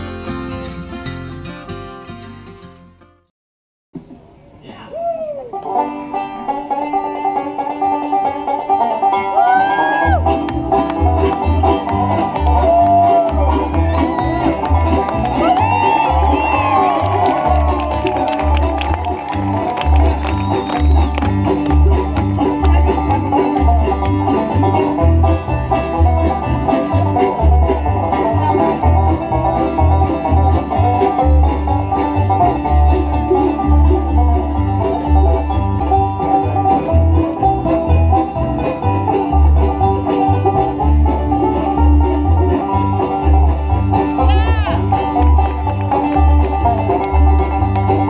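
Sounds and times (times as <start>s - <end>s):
banjo: 0.0s - 3.2s, 5.5s - 48.0s
live bluegrass music: 0.0s - 3.3s, 4.0s - 48.0s.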